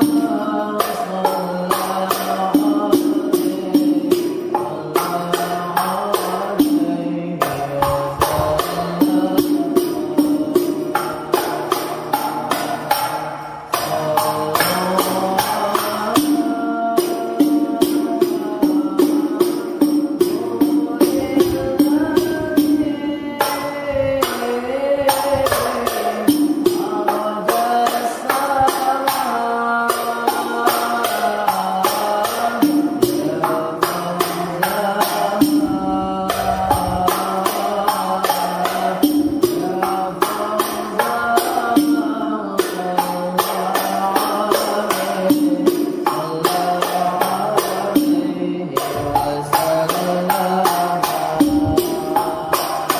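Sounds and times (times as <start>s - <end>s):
frame drums fast rhythm: 0.0s - 52.9s.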